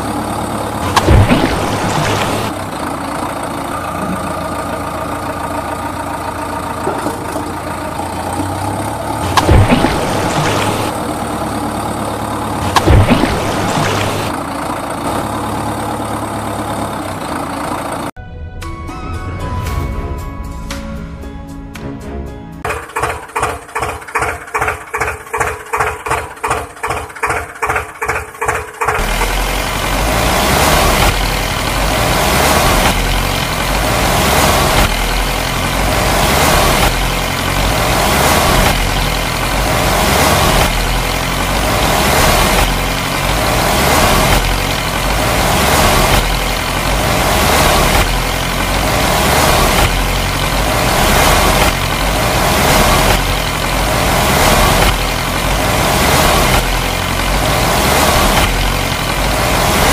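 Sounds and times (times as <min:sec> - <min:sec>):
diesel tractor engine: 0:00.0 - 0:59.9.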